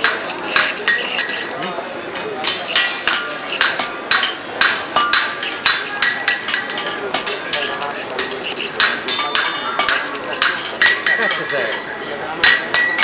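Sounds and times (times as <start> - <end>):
hammers ringing on anvils: 0.0 - 1.5, 2.4 - 13.0.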